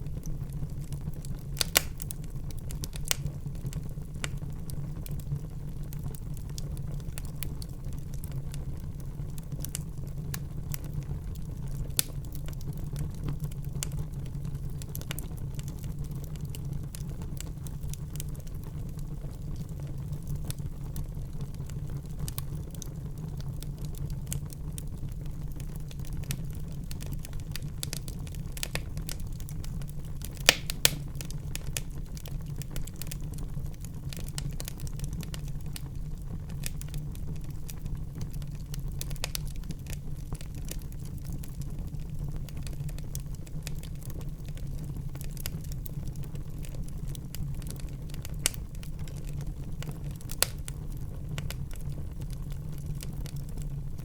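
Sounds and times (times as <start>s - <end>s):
fire crackles and pops: 0.0s - 54.0s
fire flames rumbling: 0.0s - 54.0s.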